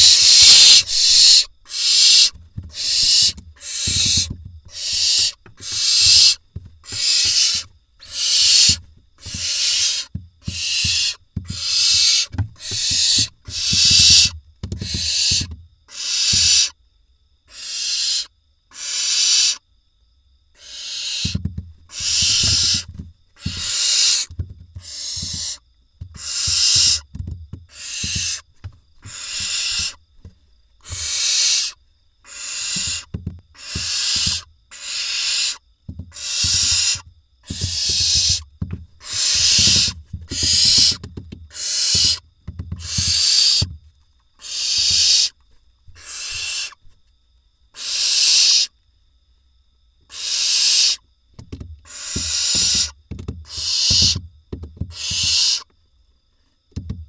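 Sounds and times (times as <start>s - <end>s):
owl nestlings hissing calls: 0.0s - 16.8s, 17.5s - 19.6s, 20.6s - 27.1s, 27.7s - 28.4s, 29.0s - 30.0s, 30.8s - 42.2s, 42.8s - 43.7s, 44.4s - 46.8s, 47.8s - 48.7s, 50.1s - 51.0s, 51.8s - 54.2s, 54.9s - 55.7s.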